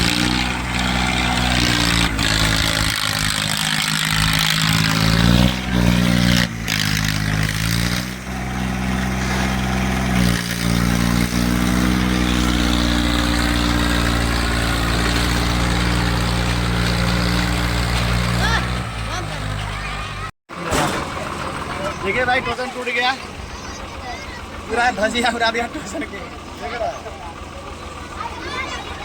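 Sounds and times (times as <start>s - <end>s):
tractor engines running under load: 0.0s - 29.0s.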